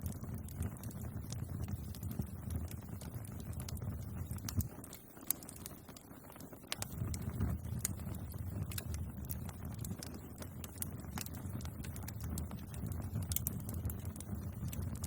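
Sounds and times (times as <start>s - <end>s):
bonfire crackling and popping: 0.0s - 15.0s
low rumble of flames: 0.0s - 15.0s.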